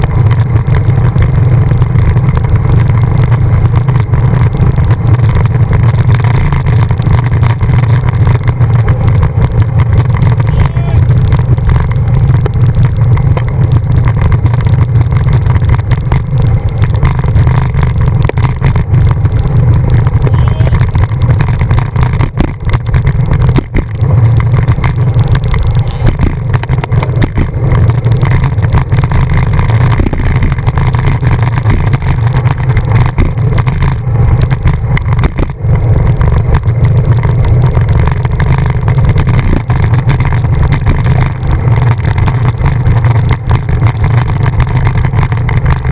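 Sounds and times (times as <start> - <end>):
tyres on wet road: 0.0 - 45.9
wind rumble on microphone: 0.0 - 45.9.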